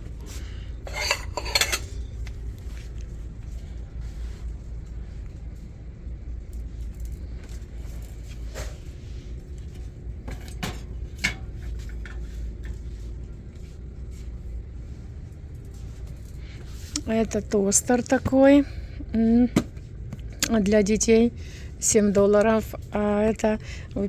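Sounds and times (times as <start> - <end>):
shop background rumble: 0.0 - 24.0.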